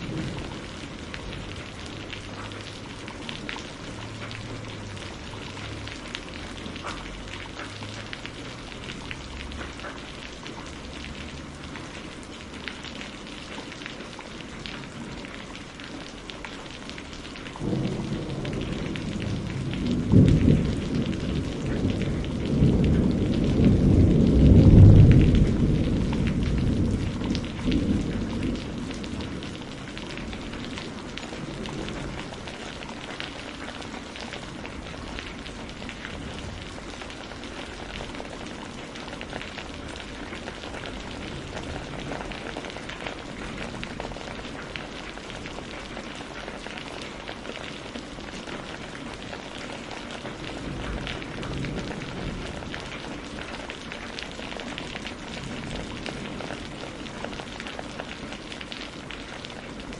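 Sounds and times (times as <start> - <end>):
low rumble of thunder: 0.0 - 15.4, 16.9 - 59.9
steady rain: 0.0 - 59.9.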